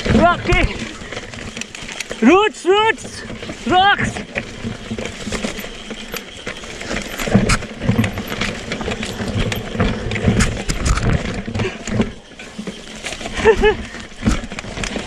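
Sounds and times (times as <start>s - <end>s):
bike clattering over rocks: 0.0s - 15.0s.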